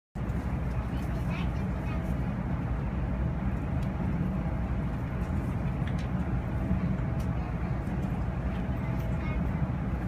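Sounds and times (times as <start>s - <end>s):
train running rumble: 0.2s - 10.0s.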